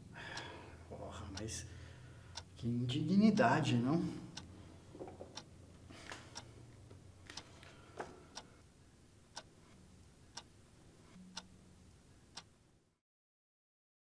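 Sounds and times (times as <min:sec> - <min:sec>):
clock ticking faintly: 0:00.3 - 0:12.6.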